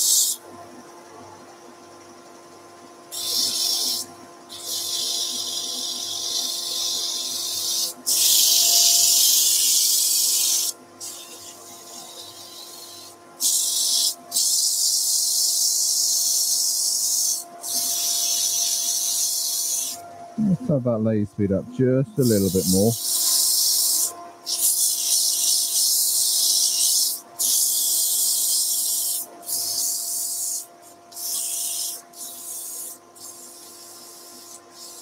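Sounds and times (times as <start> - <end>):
sandpaper hissing on spinning wood: 3.1 - 20.0, 22.2 - 35.0.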